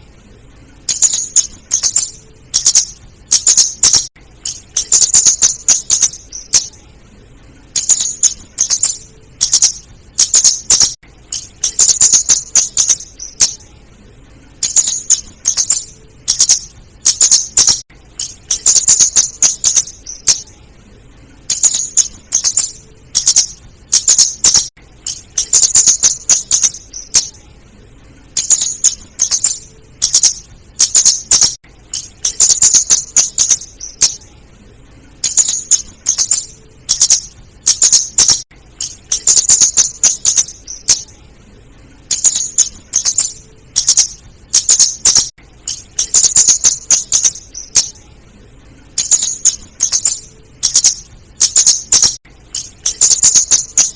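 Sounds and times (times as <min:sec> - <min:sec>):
bird high-pitched ticking calls: 0:00.8 - 0:06.8, 0:07.6 - 0:13.7, 0:14.6 - 0:20.6, 0:21.4 - 0:27.4, 0:28.3 - 0:34.3, 0:35.2 - 0:41.2, 0:42.1 - 0:48.0, 0:49.0 - 0:53.9.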